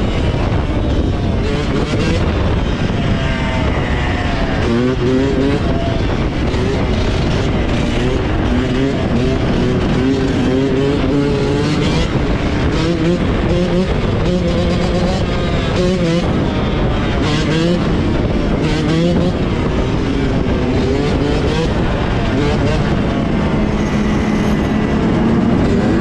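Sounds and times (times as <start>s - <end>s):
off-road engines revving: 0.0s - 26.0s.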